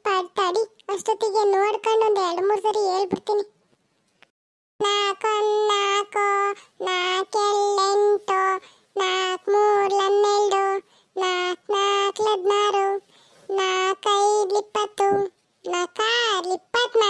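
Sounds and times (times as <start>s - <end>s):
cartoon child chanting: 0.0s - 3.5s, 4.8s - 17.0s.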